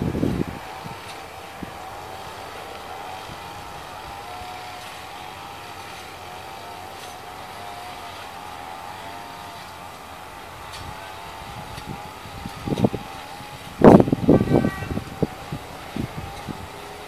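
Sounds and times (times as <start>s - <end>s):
distant jet engines: 0.0s - 17.0s.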